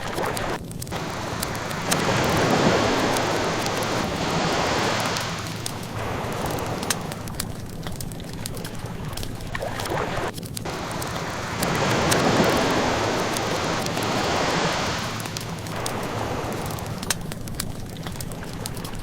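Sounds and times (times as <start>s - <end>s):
ocean waves washing in: 0.0s - 19.0s
wood fire crackling: 0.0s - 19.0s.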